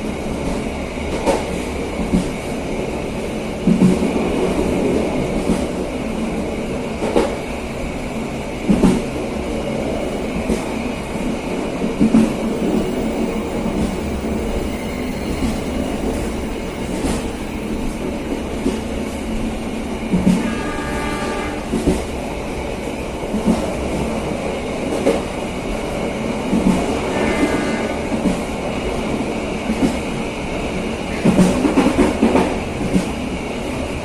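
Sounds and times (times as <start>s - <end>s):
train rolling rumble: 0.0s - 34.0s.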